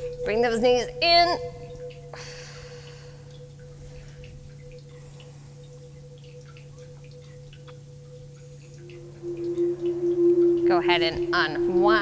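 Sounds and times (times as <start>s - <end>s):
held pure tone: 0.0s - 12.0s
steady low hum: 0.0s - 12.0s.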